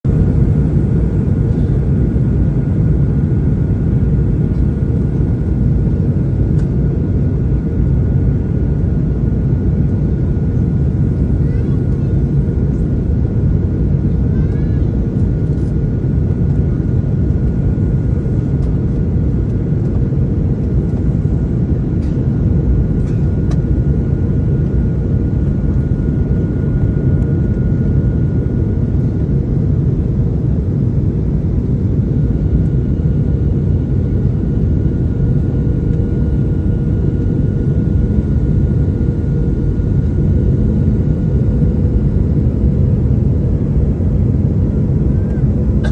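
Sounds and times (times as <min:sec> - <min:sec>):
engine and airflow rumble: 0:00.0 - 0:45.9.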